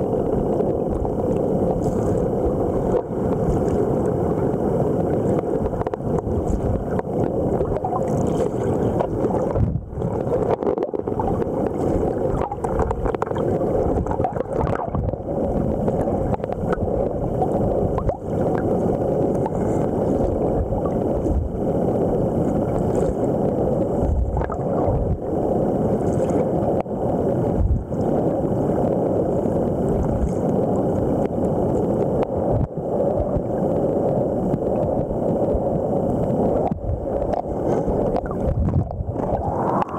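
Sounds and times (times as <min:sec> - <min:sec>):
muffled underwater river churning: 0:00.0 - 0:39.9.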